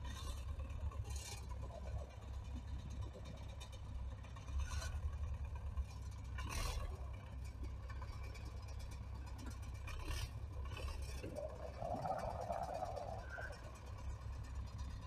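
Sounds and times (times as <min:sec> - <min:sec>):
higher rougher engine sound: 0:00.0 - 0:15.0
tractor diesel engine rumbling: 0:00.0 - 0:15.0.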